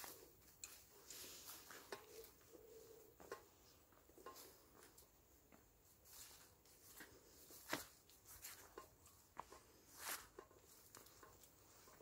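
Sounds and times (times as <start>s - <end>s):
footsteps on dirt path: 0.0s - 12.0s.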